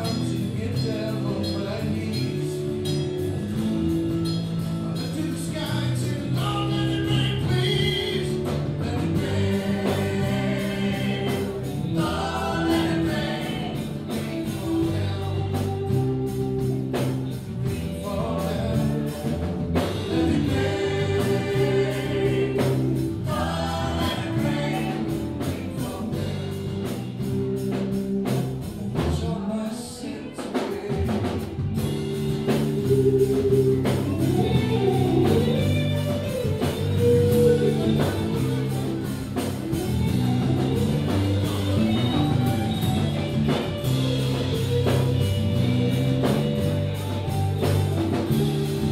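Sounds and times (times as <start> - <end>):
guitars and bass: 0.0 - 48.9
voices singing together: 0.0 - 48.9.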